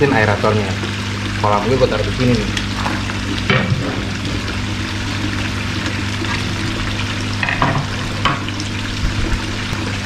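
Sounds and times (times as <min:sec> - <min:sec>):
pump electric hum: 0:00.0 - 0:10.0.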